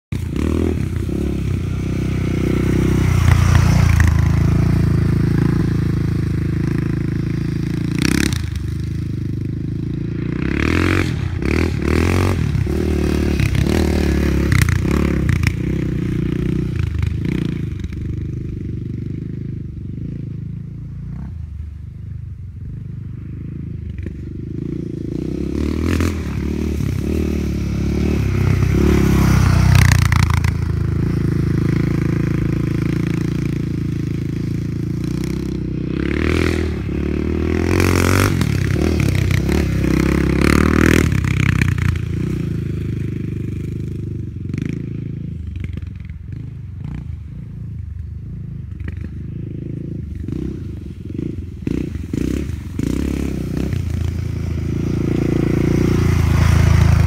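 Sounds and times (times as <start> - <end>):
quad engine revving: 0.1 - 20.2, 24.0 - 47.2, 48.8 - 57.0.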